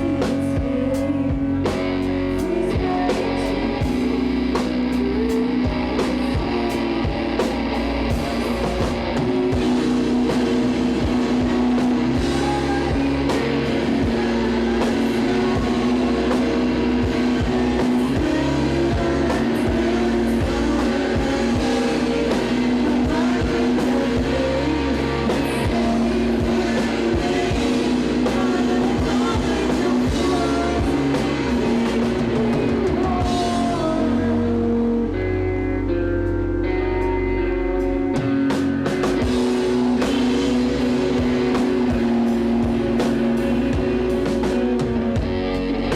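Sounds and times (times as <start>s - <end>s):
drum kit: 0.0s - 35.3s, 36.2s - 45.9s
bass guitar: 0.0s - 45.9s
electric guitars: 0.0s - 45.9s
person singing: 0.0s - 45.9s.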